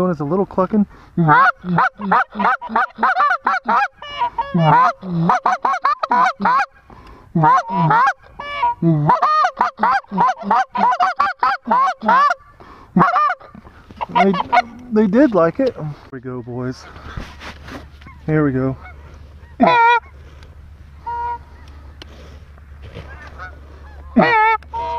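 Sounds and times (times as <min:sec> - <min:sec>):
goose calls clucking and honking: 0:01.2 - 0:06.8, 0:07.4 - 0:12.4, 0:13.0 - 0:20.2, 0:20.9 - 0:22.0, 0:22.9 - 0:24.9.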